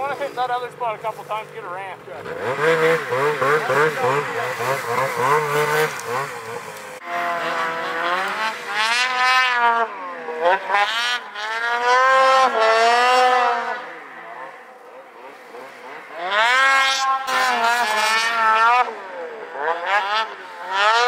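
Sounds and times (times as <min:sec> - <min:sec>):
snowmobile engines revving: 0:00.0 - 0:21.0.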